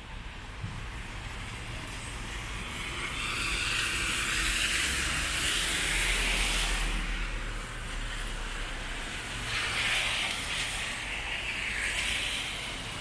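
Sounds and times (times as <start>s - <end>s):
rain hiss on wet street: 0.0s - 13.0s.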